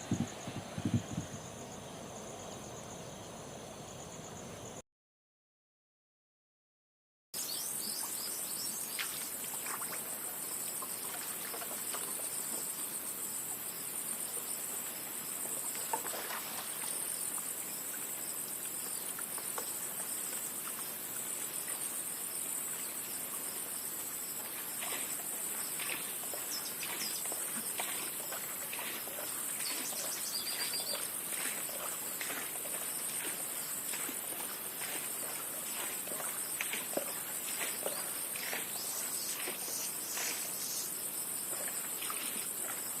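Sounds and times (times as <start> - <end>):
insect chorus: 0.0 - 4.8, 7.4 - 43.0.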